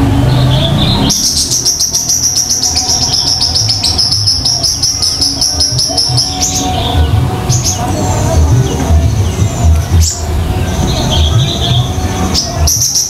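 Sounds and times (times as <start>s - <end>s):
bird trilling: 0.3s - 13.0s.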